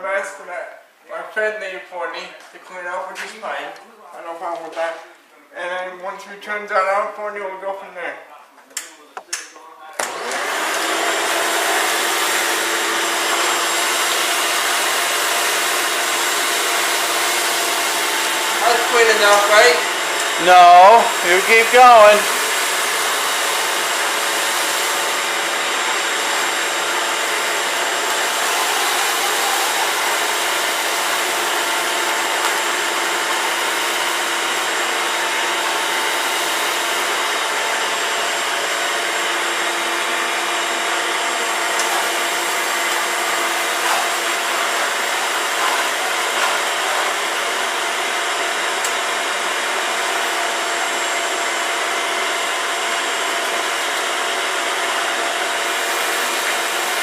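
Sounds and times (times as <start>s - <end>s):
vacuum cleaner running: 10.0s - 57.0s.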